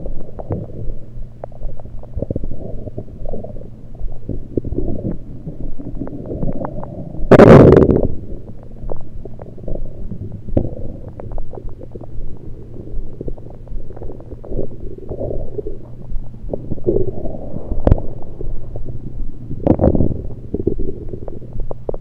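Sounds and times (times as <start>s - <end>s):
stomach gurgling: 0.0s - 22.0s.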